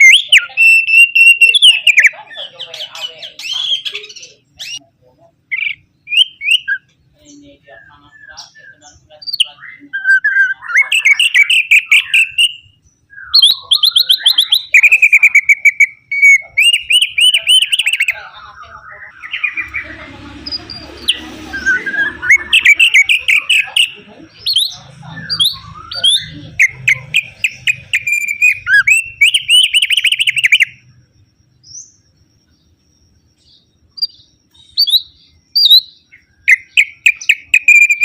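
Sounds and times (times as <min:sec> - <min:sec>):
bird singing chattering trills: 0:00.0 - 0:38.0.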